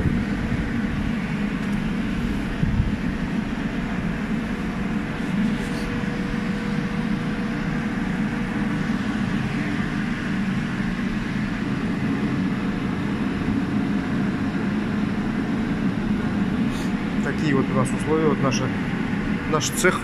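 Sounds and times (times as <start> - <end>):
space heater fan roaring: 0.0 - 20.0.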